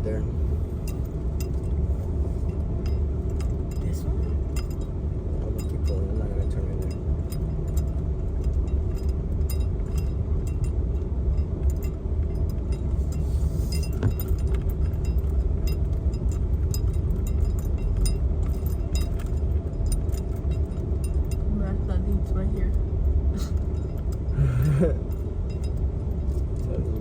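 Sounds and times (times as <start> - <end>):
low rumble of engine and tyres: 0.0 - 27.0
small rattles and clinks: 0.0 - 27.0.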